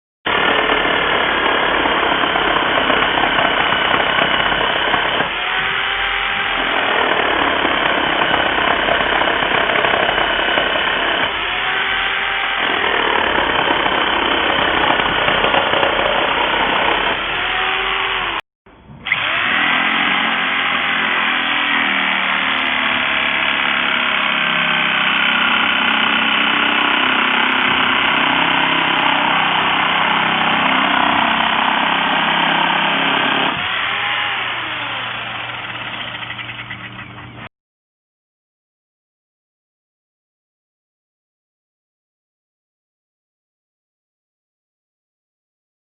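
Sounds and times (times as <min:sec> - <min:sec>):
reciprocating saw running: 0:00.3 - 0:37.3.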